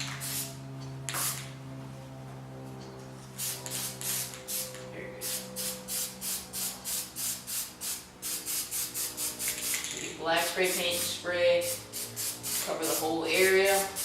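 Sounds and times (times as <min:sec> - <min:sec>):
steady low hum: 0:00.0 - 0:14.0
aerosol spray hissing bursts: 0:00.2 - 0:01.5, 0:03.4 - 0:09.9, 0:10.5 - 0:14.0.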